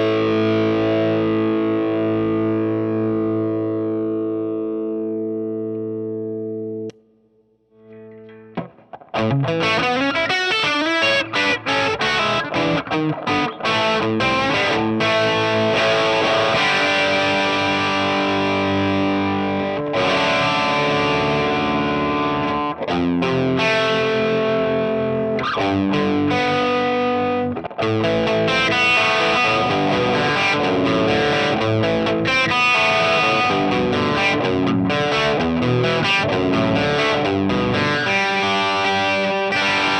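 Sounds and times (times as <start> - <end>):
distorted electric guitar: 0.0 - 7.0, 7.8 - 39.9.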